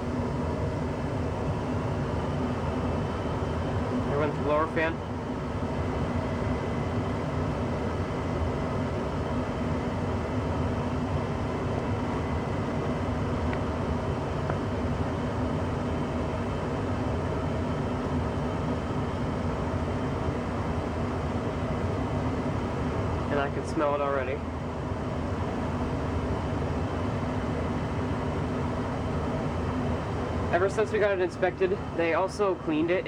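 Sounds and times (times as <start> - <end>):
furnace blower fan running: 0.0 - 33.0.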